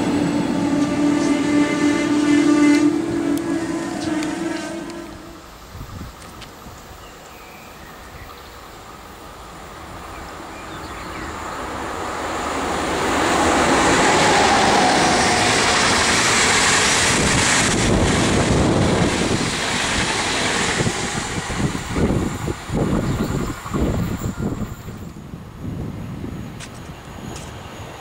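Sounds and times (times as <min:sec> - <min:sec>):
high-speed train passing: 0:00.0 - 0:28.0.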